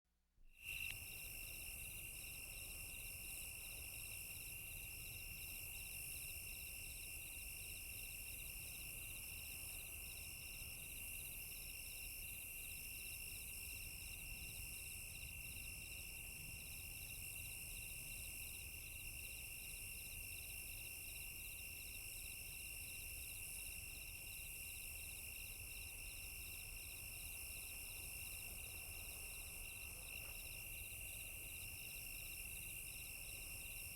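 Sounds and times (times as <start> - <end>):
crickets trilling: 0.6 - 33.9.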